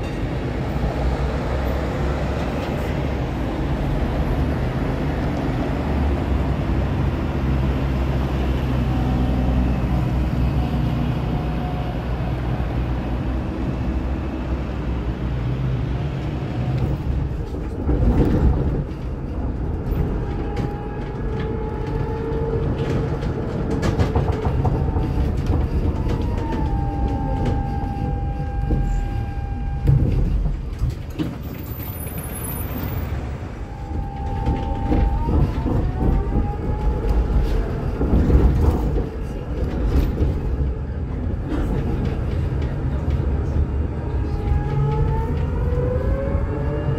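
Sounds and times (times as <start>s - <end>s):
tram electric drive whining: 0.0s - 46.9s
tram wheels rumbling on rail: 0.0s - 46.9s.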